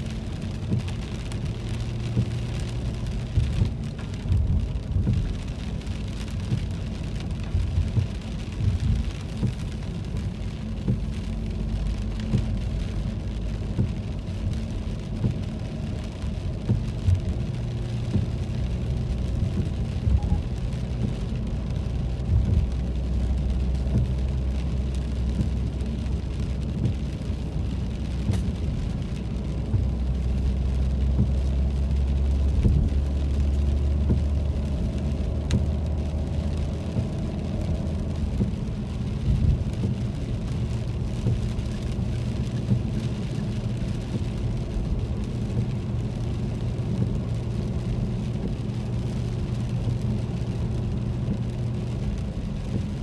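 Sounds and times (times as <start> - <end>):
engine and road hum: 0.0 - 53.0
tyres hissing on wet pavement: 0.0 - 53.0.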